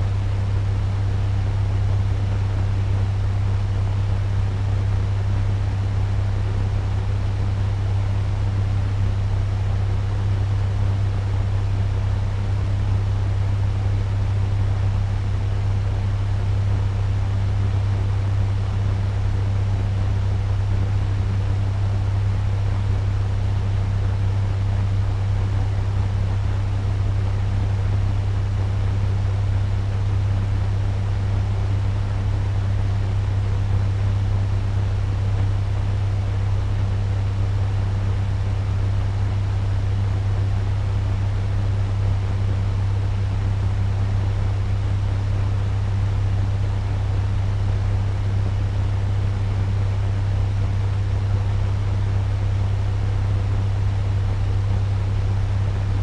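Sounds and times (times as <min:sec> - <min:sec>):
fan blowing air: 0:00.0 - 0:56.0
low fan hum: 0:00.0 - 0:56.0.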